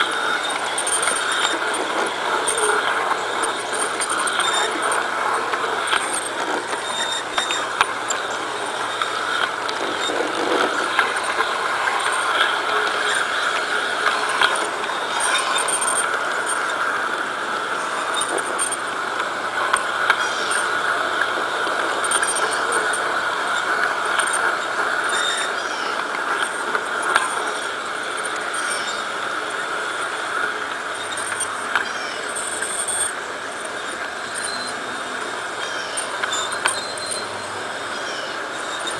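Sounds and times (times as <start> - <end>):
model streetcar motor whirring: 0.0 - 38.9.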